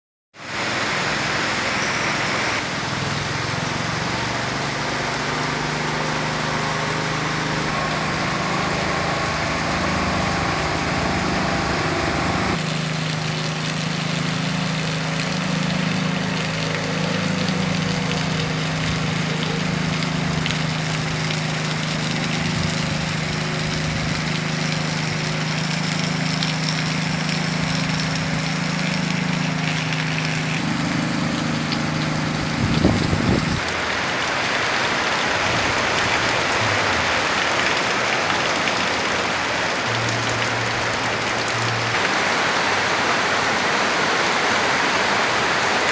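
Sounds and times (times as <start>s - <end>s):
heavy rain hissing: 0.4s - 45.9s
low engine hum: 0.5s - 34.6s, 35.4s - 45.8s.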